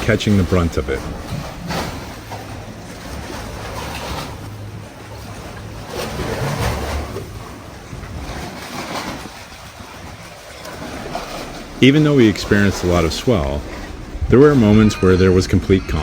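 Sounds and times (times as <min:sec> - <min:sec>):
ocean swell washing against boat: 0:00.0 - 0:16.0
wind rumbling on microphone: 0:00.0 - 0:16.0.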